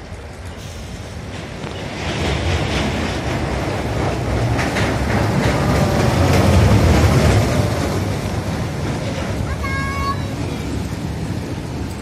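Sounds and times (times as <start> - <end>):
roller coaster train rumbling on track: 0.0 - 12.0.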